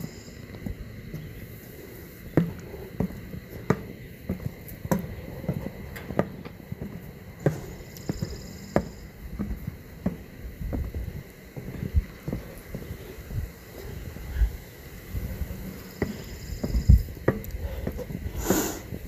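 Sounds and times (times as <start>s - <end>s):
footsteps on stairs: 0.0s - 19.0s.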